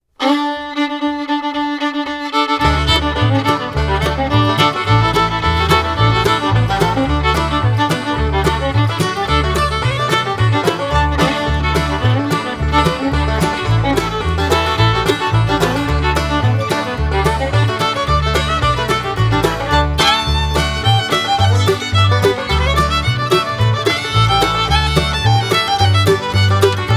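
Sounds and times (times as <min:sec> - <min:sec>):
instrumental background music: 0:02.6 - 0:26.9.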